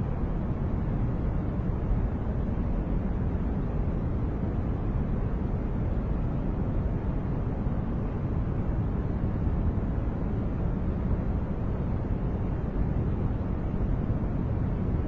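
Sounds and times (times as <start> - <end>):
deep rumbling white noise: 0.0 - 15.0.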